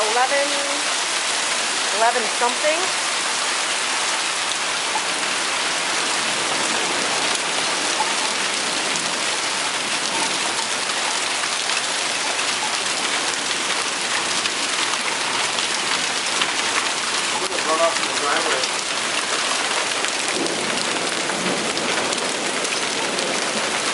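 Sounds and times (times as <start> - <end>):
hailstones ticking on hard surfaces: 0.0 - 23.9
heavy rain hissing: 0.0 - 23.9.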